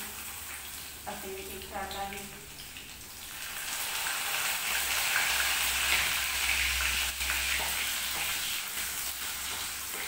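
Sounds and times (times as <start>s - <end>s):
hot oil sizzling in pan: 0.0s - 10.0s.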